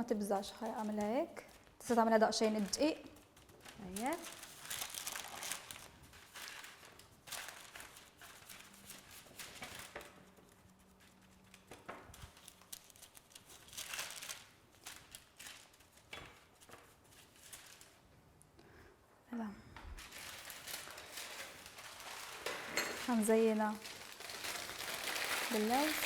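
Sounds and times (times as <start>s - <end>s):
rustling and crinkling handling: 0.3s - 18.2s, 20.0s - 26.0s.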